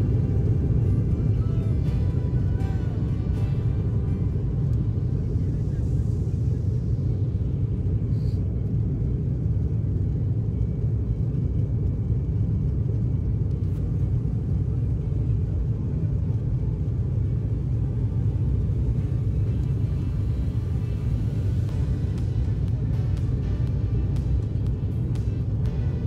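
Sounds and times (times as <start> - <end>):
jet engines deep rumble: 0.0 - 26.0.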